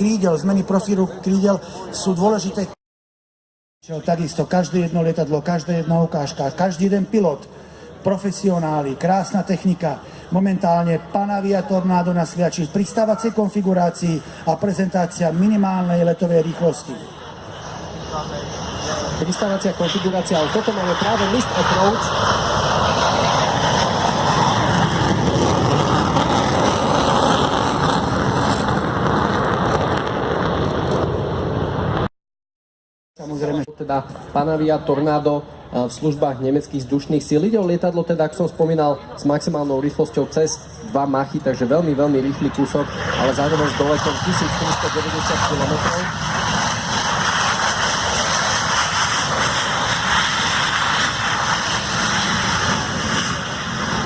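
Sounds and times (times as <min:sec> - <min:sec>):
jet engines running loud: 0:00.0 - 0:02.8, 0:03.9 - 0:32.1, 0:33.2 - 0:54.0.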